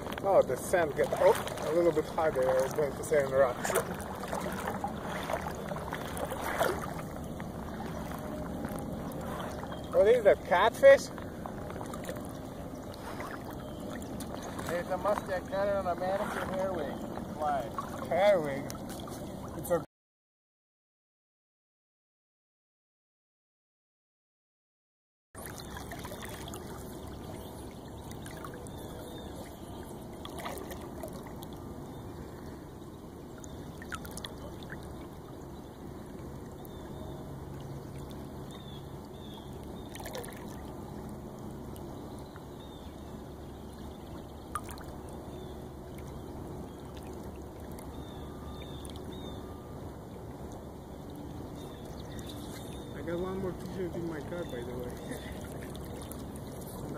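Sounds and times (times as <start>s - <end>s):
river water trickling and lapping: 0.0s - 19.9s, 25.4s - 56.9s.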